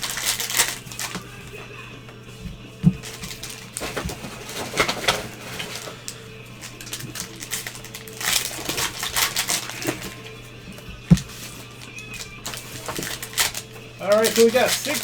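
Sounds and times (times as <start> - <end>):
cards handled: 0.0 - 15.0
foil wrappers tearing and crinkling: 0.0 - 15.0.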